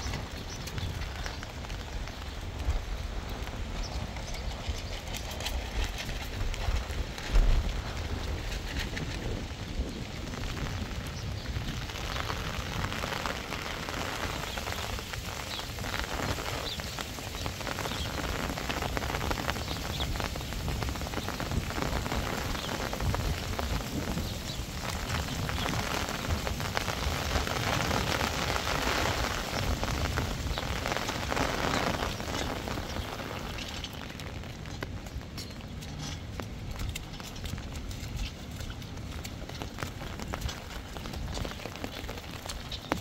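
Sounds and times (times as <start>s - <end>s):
heavy rain falling: 0.0s - 43.0s
low wind rumble: 0.0s - 43.0s
rain drop ticks: 0.0s - 43.0s.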